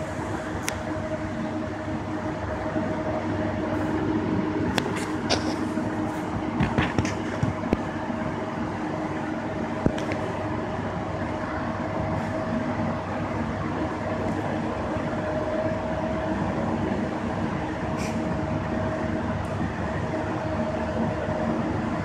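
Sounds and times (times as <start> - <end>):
constant noise: 0.0 - 22.0
mechanical hum: 0.0 - 22.0.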